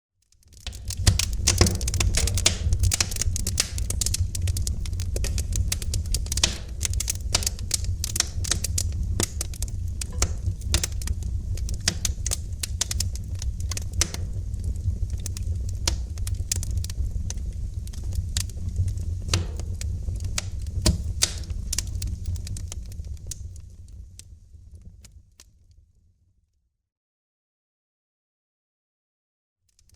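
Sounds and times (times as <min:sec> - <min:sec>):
wood fire crackling and popping: 0:00.2 - 0:25.5
fire low rumble: 0:00.4 - 0:25.8.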